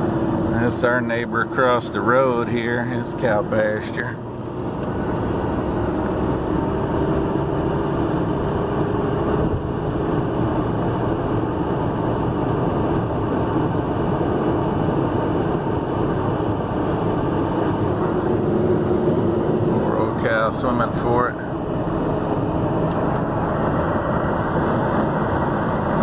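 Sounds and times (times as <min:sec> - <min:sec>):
vehicle engine and tyre drone: 0:00.0 - 0:26.0.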